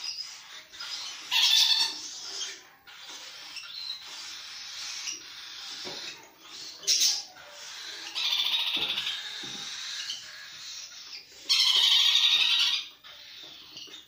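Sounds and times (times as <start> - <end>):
parrot chicks begging calls: 0.0 - 14.0.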